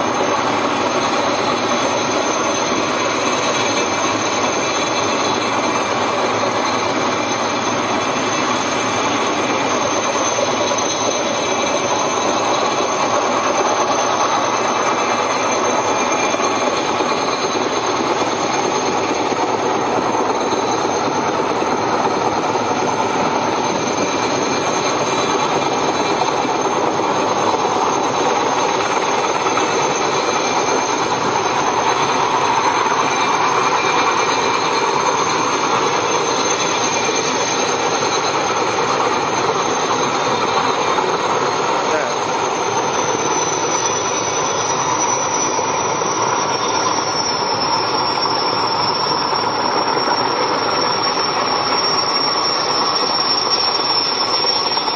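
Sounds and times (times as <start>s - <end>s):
helicopter rotor and turbine noise: 0.0s - 54.9s
high turbine whine: 0.0s - 54.9s.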